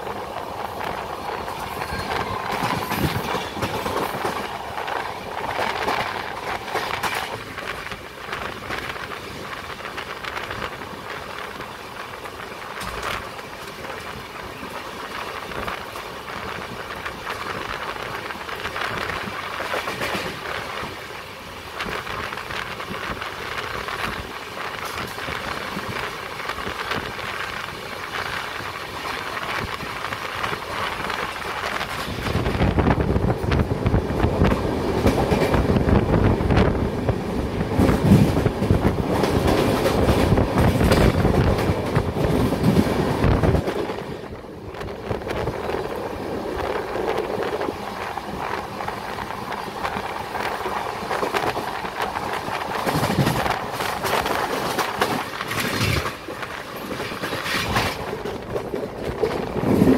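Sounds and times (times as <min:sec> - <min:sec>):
train wheel and wind noise: 0:00.0 - 0:59.9
train wheels clacking: 0:00.7 - 0:11.7, 0:12.3 - 0:21.0, 0:21.8 - 0:59.9.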